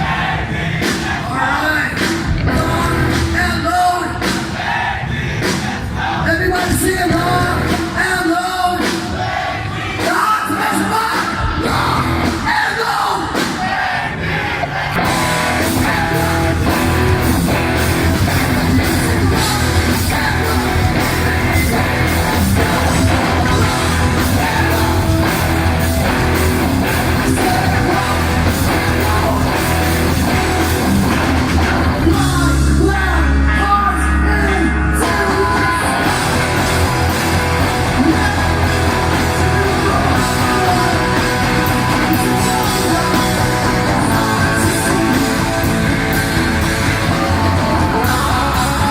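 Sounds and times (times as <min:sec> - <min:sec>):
live rock band playing: 0:00.1 - 0:04.8, 0:05.4 - 0:14.0, 0:14.7 - 0:48.9.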